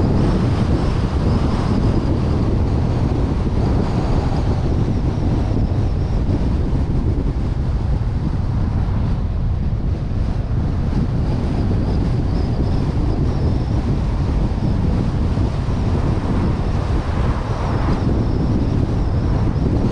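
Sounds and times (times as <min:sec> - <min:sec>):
road and engine rumble: 0:00.0 - 0:19.9
wind buffeting microphone: 0:00.0 - 0:19.9.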